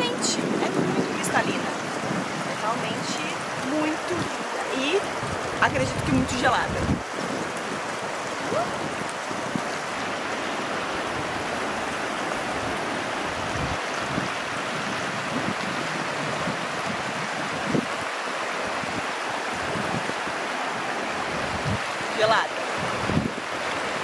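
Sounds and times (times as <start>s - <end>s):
river rushing over stones: 0.0s - 24.0s.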